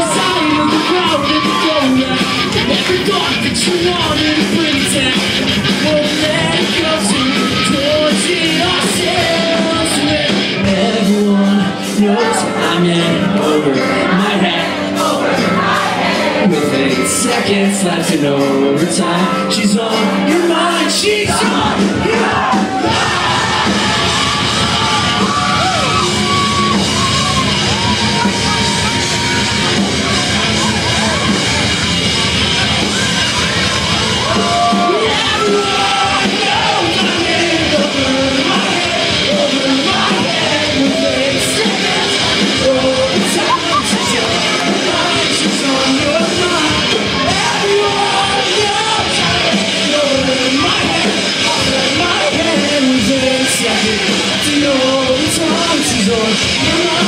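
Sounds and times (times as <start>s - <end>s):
live pop-punk band: 0.0s - 57.0s
sung and yelled vocals: 0.0s - 57.0s.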